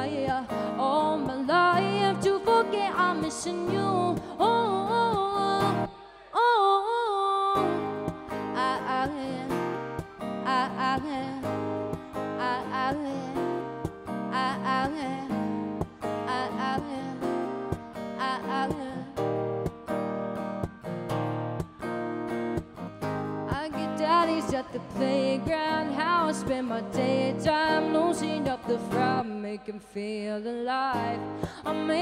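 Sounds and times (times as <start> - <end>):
acoustic guitar strumming: 0.0 - 6.2, 7.6 - 29.4, 30.9 - 32.0
woman singing with vibrato: 0.0 - 13.7, 14.3 - 17.5, 18.1 - 19.3, 23.5 - 32.0.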